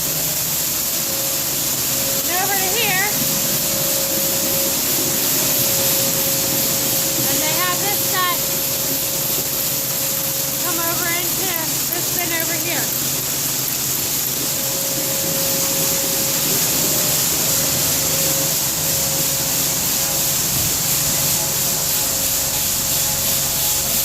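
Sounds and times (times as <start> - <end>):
faint steady whine: 0.0 - 24.0
grain rushing hiss: 0.0 - 24.0
machinery low hum: 0.0 - 24.0.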